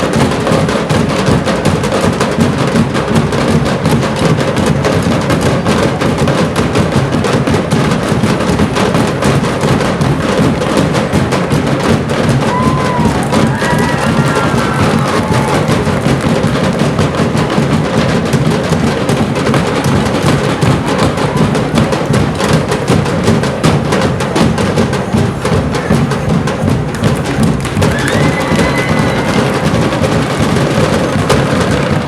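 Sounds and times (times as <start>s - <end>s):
drum ensemble drumming: 0.0s - 32.0s.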